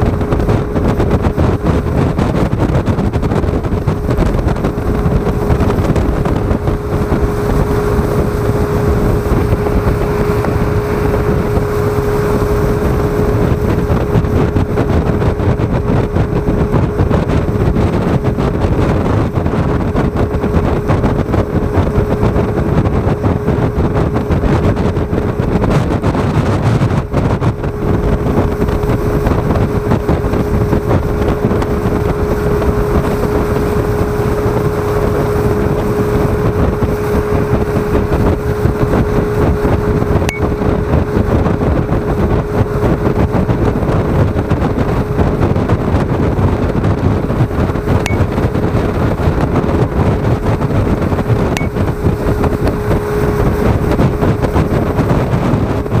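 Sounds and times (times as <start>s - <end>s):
rushing water: 0.0s - 56.0s
speedboat engine: 0.0s - 56.0s
wind: 0.0s - 56.0s.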